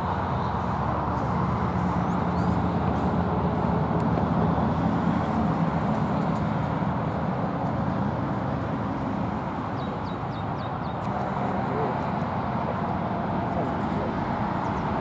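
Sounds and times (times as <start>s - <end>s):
low engine hum: 0.0s - 15.0s
road traffic rumble: 0.0s - 15.0s.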